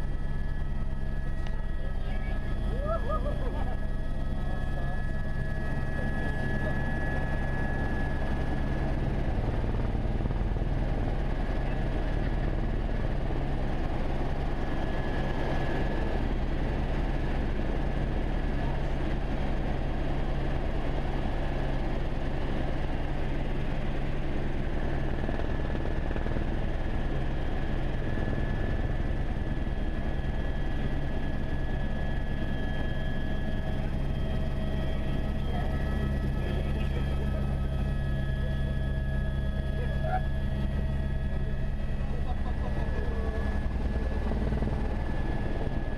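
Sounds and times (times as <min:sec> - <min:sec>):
helicopter rotor and turbine: 0:00.0 - 0:45.9.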